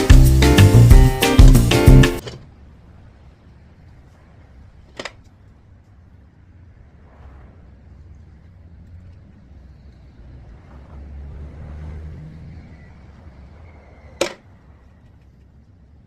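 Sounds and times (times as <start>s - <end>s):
low vehicle rumble: 0.4s - 16.0s.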